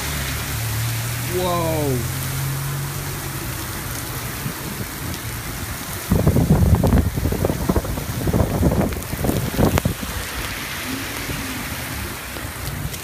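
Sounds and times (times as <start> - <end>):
torrential rain hissing: 0.0 - 13.0.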